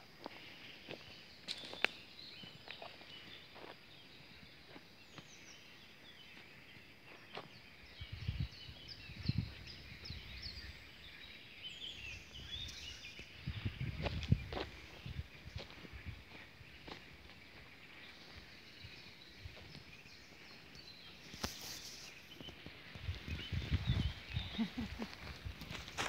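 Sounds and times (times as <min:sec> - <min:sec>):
songbirds singing: 0:00.0 - 0:26.0.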